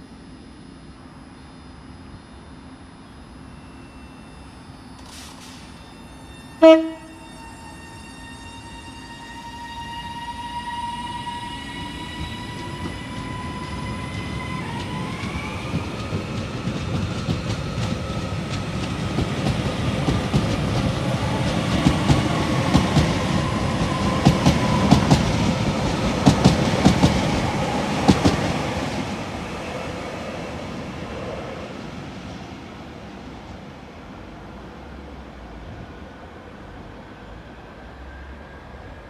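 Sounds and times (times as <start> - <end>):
train passing with high whine: 0.0 - 39.0.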